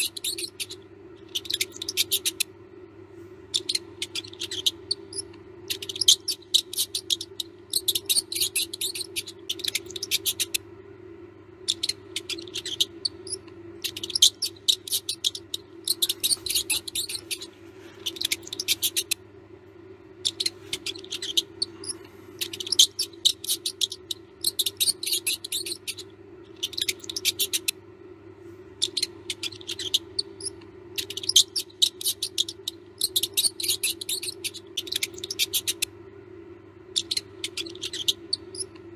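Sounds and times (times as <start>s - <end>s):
mouse squeaking: 0.0s - 2.6s, 3.5s - 10.6s, 11.6s - 19.2s, 20.1s - 27.8s, 28.8s - 35.9s, 36.9s - 38.9s
low steady hum: 0.0s - 38.9s.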